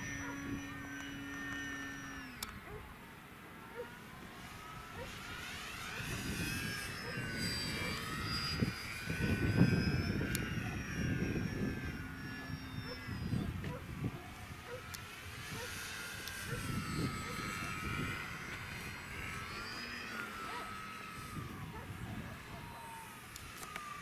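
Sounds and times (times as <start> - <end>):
model airplane motor whine: 0.0 - 24.0.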